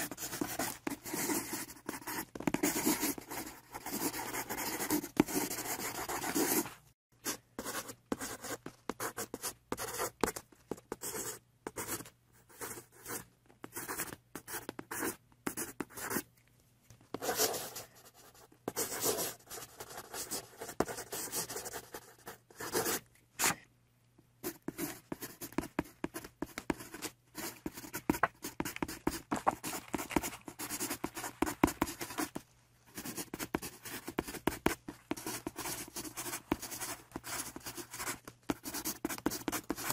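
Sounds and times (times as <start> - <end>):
marker pens scratching on paper: 0.0 - 16.2, 17.1 - 23.6, 24.4 - 39.9.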